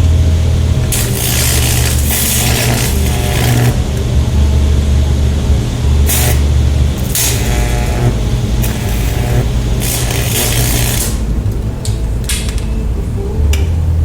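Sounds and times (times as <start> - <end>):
harsh crackling buzzing bursts: 0.0 - 12.6
loud mains hum from speakers: 0.0 - 14.0.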